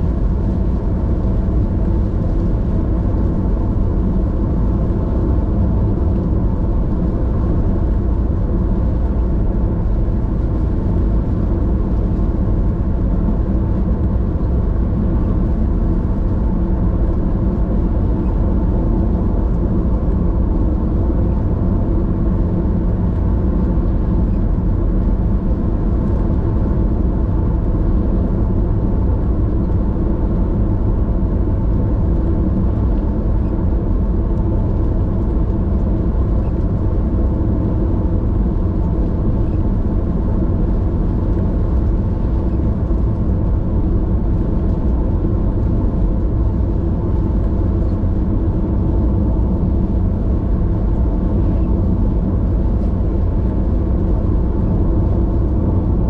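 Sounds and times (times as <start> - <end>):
car engine low rumble: 0.0 - 56.0.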